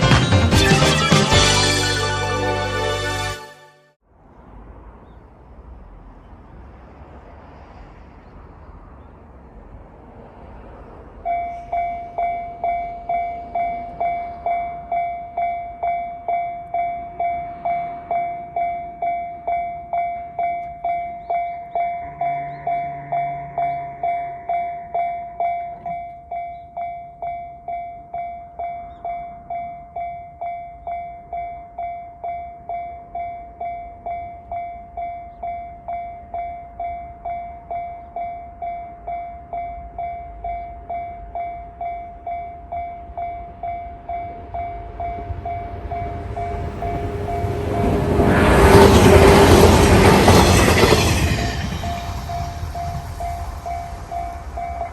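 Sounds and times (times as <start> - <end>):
approaching train: 0.0 - 54.9.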